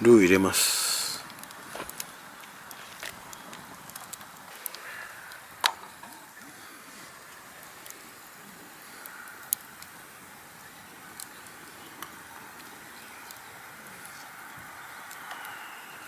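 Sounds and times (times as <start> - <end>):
campfire clicks: 0.0 - 16.0.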